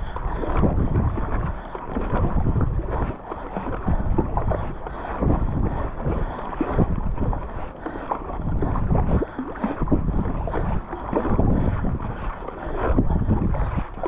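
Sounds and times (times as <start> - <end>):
paddle splashing through water: 0.0 - 14.0
water washing along kayak: 0.0 - 14.0
wind buffeting microphone: 0.0 - 14.0.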